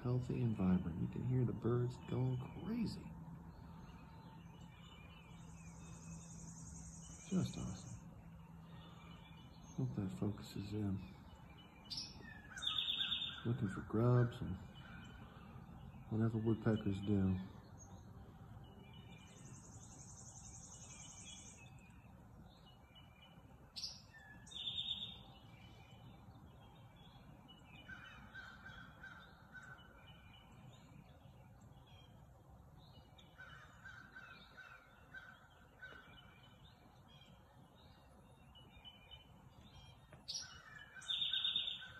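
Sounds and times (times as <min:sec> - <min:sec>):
wild birds calling and singing: 0:00.0 - 0:41.9.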